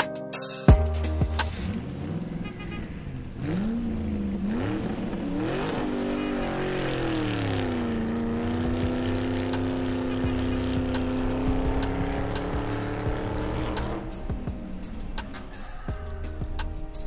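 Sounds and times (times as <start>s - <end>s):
vehicle engine revving: 0.9s - 17.0s.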